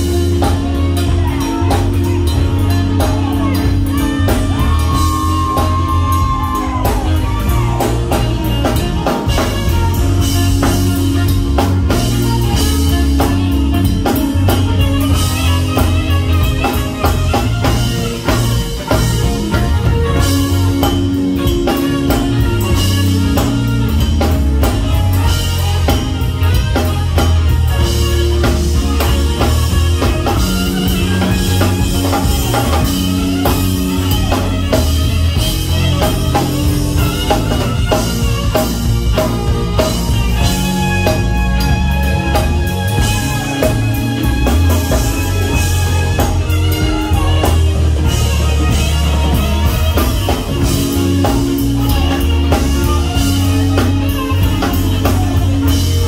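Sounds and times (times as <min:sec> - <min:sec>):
bass guitar: 0:00.0 - 0:56.0
drum kit beat: 0:00.0 - 0:56.0
electric guitar: 0:00.0 - 0:56.0
saxophone: 0:00.0 - 0:56.0.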